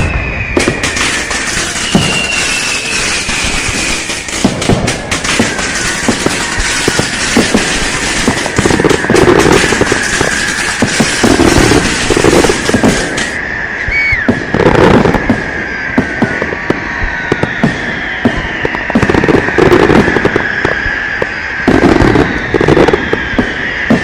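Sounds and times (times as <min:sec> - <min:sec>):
short falling whistle: 0:00.0 - 0:04.5, 0:05.3 - 0:24.0
firecrackers and fireworks crackling: 0:00.0 - 0:24.0
loud bangs: 0:00.0 - 0:24.0
steady high whistle: 0:00.0 - 0:24.0.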